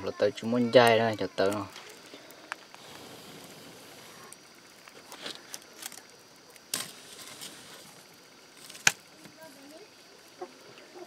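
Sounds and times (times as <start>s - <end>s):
fire crackling and popping: 0.0s - 10.9s
faint steady hiss: 0.0s - 11.0s.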